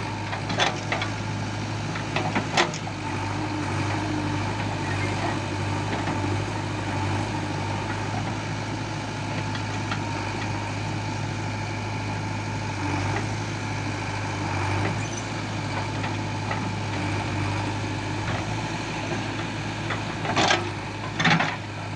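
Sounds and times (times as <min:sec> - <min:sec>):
heavy diesel engine humming: 0:00.0 - 0:21.9.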